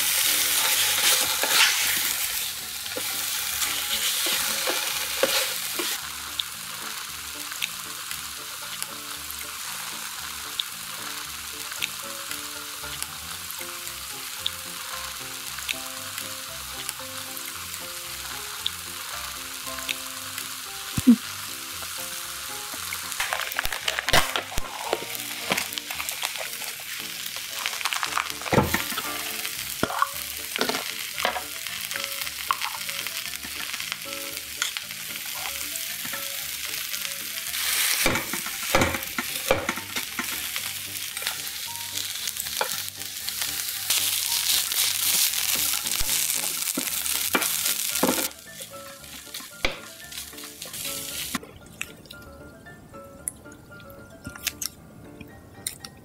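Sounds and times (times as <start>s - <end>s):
fish sizzling in a pan: 0.0s - 51.4s.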